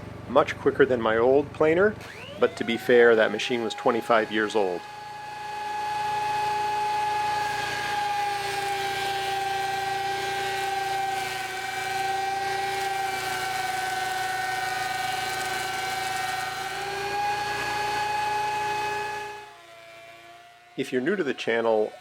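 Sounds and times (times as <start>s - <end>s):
thickness planer whining: 0.0s - 22.0s.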